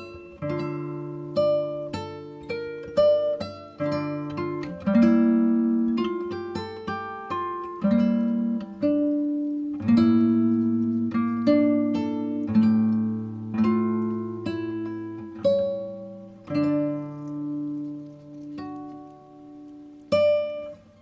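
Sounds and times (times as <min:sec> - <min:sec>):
acoustic guitar plucked notes: 0:00.0 - 0:21.0.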